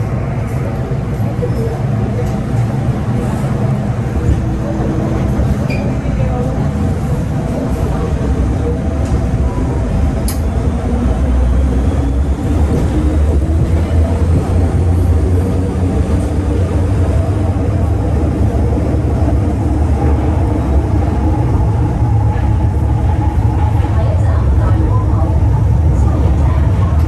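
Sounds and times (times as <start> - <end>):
train interior rumble: 0.0 - 27.0.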